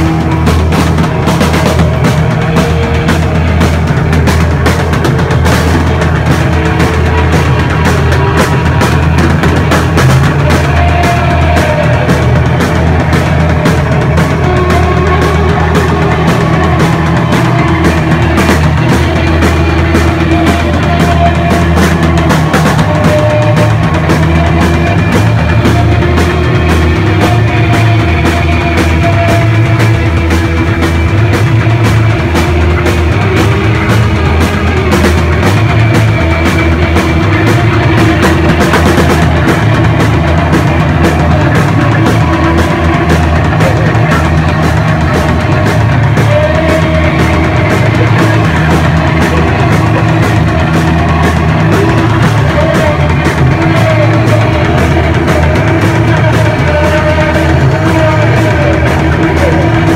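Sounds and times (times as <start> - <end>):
distorted guitar noise: 0.0 - 59.9
drum kit with cymbal hits: 0.0 - 59.9
electric bass: 0.0 - 59.9.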